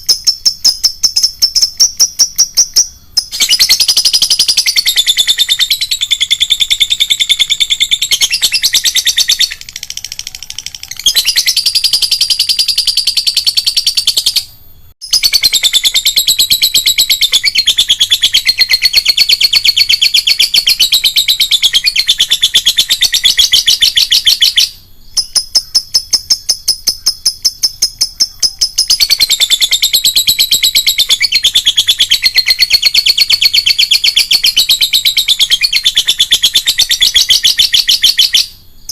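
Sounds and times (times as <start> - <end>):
lovebird chattering: 0.0 - 38.9.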